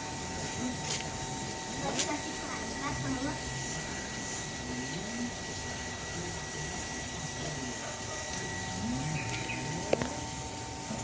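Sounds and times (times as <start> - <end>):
thin electrical whine: 0.0 - 11.0
faint indistinct voices: 0.2 - 11.0.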